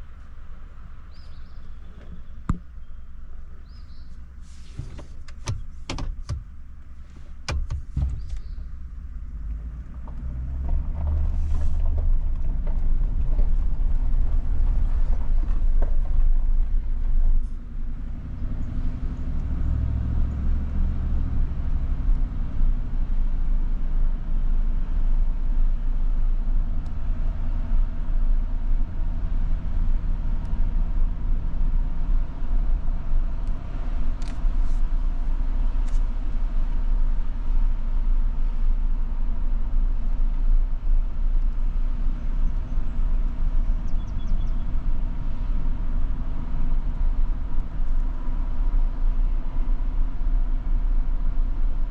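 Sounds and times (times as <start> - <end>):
road and engine rumble in car: 0.0 - 51.9.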